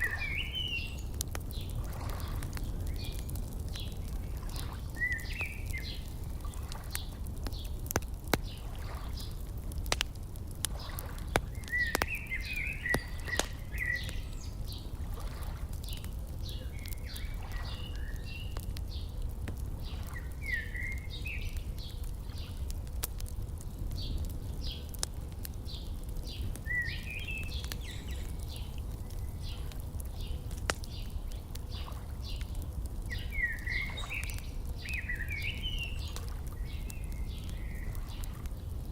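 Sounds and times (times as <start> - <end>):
small birds chirping: 0.0 - 38.9
wood fire crackling and popping: 0.0 - 38.9.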